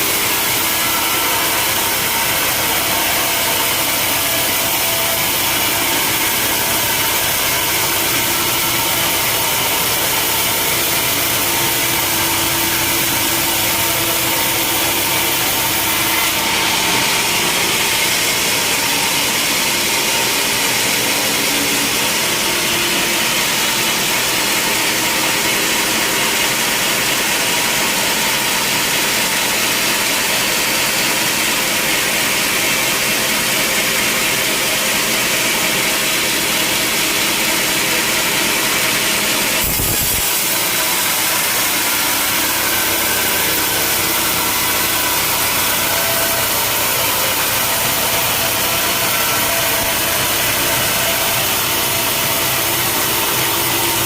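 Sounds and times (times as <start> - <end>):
engine running steadily: 0.0 - 54.0
saw cutting through log: 0.0 - 54.0.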